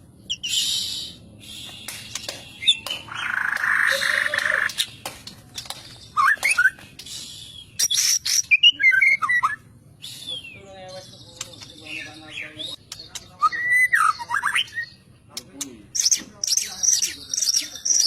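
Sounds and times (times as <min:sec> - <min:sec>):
bird singing: 0:00.0 - 0:18.0.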